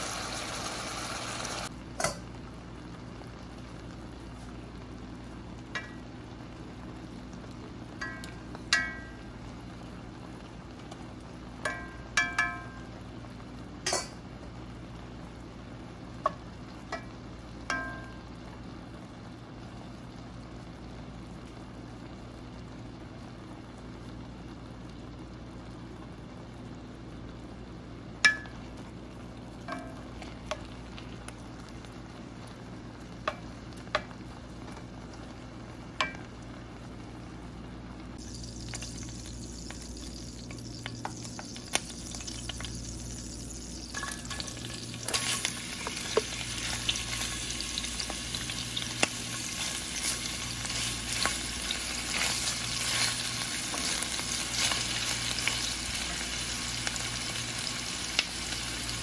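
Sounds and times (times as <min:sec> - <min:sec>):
meat cooking in a pan: 0:00.0 - 0:59.0
onions sizzling in hot oil: 0:00.0 - 0:59.0.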